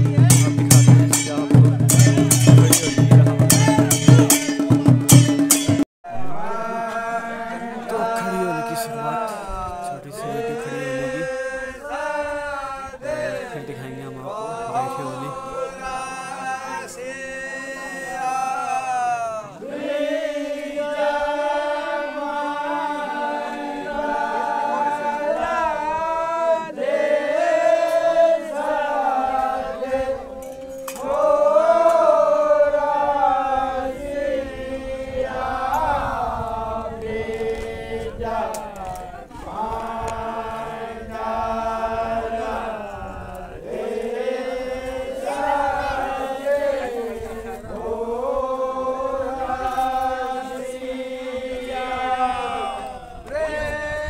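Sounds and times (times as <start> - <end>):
men singing in chorus: 0.0 - 54.0.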